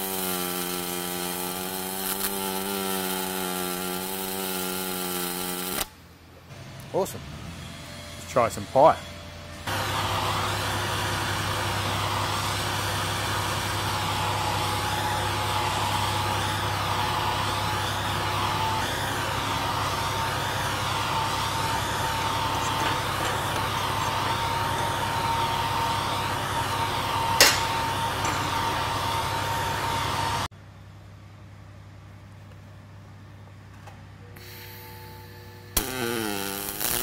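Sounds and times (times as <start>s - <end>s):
droning workshop machinery: 0.0s - 30.5s, 33.3s - 37.0s
thin steady whine: 0.0s - 30.5s, 34.2s - 35.8s.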